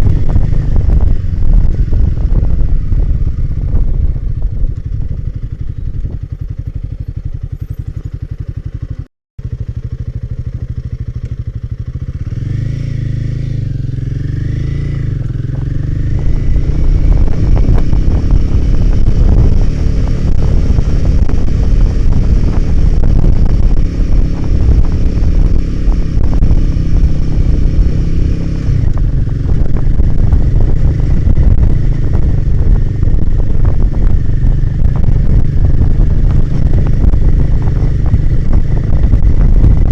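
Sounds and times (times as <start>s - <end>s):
wind rush on microphone: 0.0s - 10.0s, 12.0s - 39.9s
motorcycle engine running: 0.0s - 39.9s.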